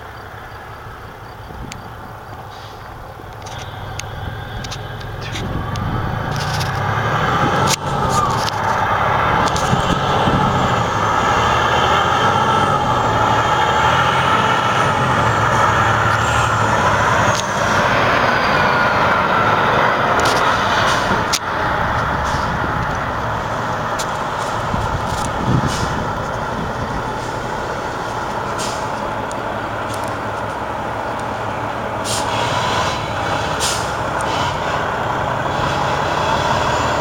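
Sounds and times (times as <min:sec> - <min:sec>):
truck diesel engine running: 0:00.0 - 0:37.0.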